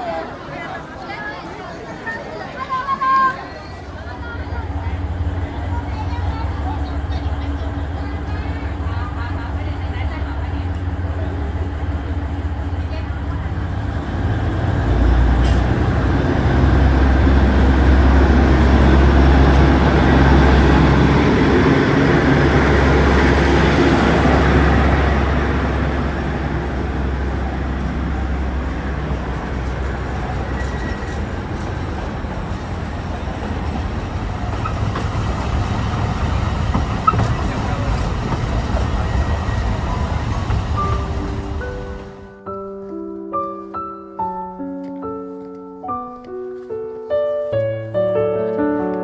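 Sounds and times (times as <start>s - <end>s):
train rumbling: 0.0s - 42.4s.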